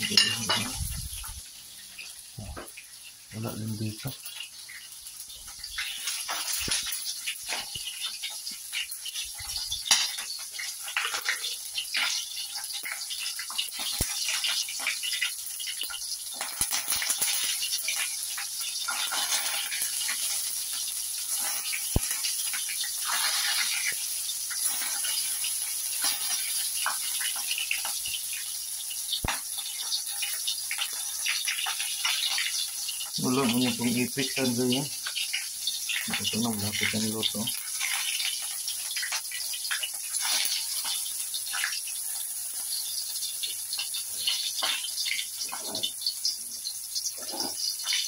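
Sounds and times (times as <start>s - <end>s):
meat sizzling in hot oil: 0.0s - 48.0s
oil crackling and popping: 0.0s - 48.0s.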